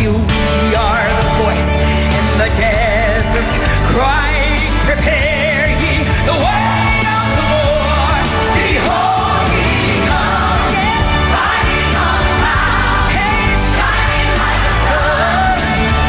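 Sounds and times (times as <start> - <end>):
gospel band with steady bass: 0.0 - 16.0.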